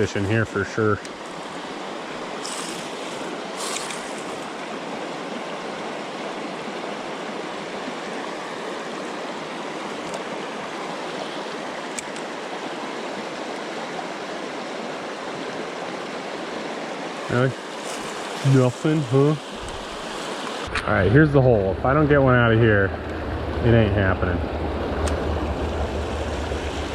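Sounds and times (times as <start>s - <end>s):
flowing creek: 0.0s - 26.9s.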